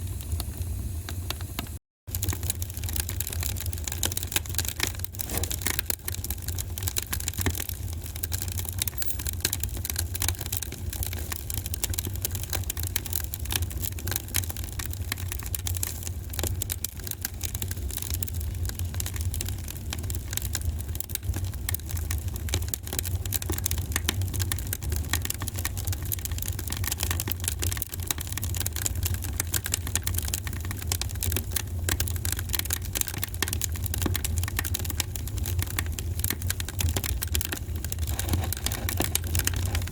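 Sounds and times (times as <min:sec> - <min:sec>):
low fire rumble: 0:00.0 - 0:39.9
wood fire crackling: 0:00.1 - 0:39.9.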